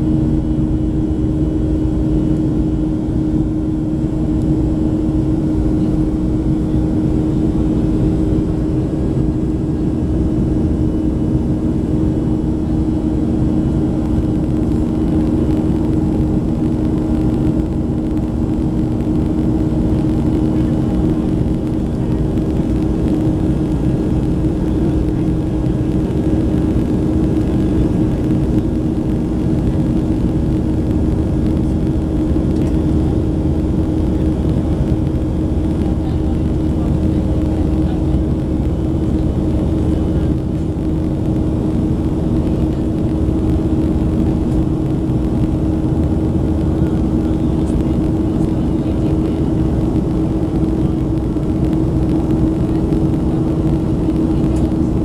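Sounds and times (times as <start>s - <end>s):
jet engine roar: 0.0s - 55.0s
low cabin hum: 0.0s - 55.0s.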